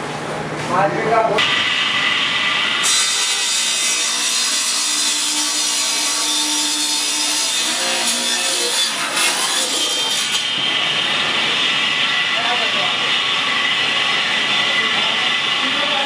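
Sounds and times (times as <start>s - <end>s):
table saw cutting board: 1.4s - 16.0s.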